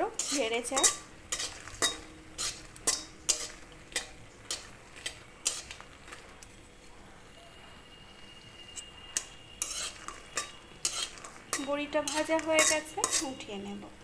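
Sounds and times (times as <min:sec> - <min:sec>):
metal spatula tapping and scraping: 0:00.0 - 0:06.6, 0:08.8 - 0:13.5
faint frying sizzle: 0:00.0 - 0:14.0.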